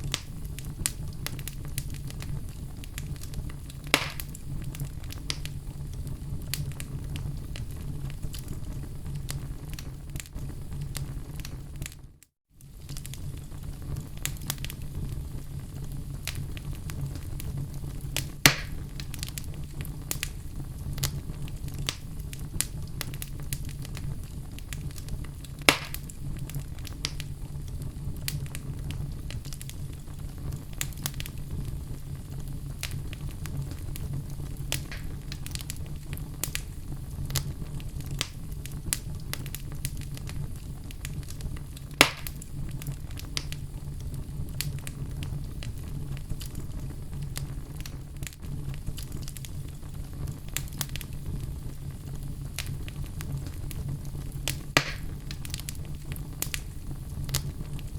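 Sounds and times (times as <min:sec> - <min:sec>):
loud fire pops: 0:00.0 - 0:57.9
wood fire crackling: 0:00.0 - 0:57.9.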